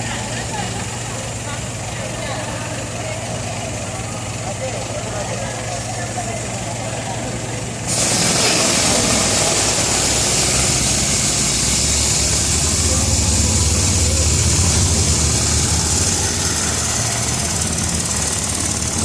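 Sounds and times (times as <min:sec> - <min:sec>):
large engine rumbling: 0:00.0 - 0:19.0.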